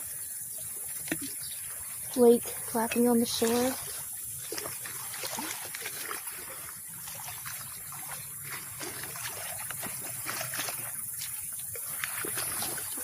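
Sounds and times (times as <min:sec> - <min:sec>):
waves lapping on rocks: 0:00.0 - 0:13.0.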